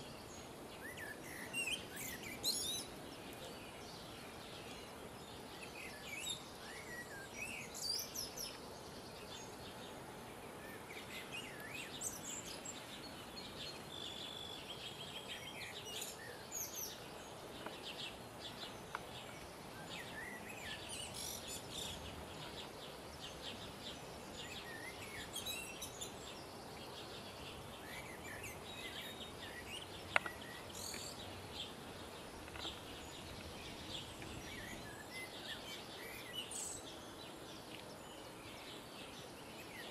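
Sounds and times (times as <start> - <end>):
outdoor hiss: 0.0 - 39.9
small birds chirping: 0.0 - 39.9.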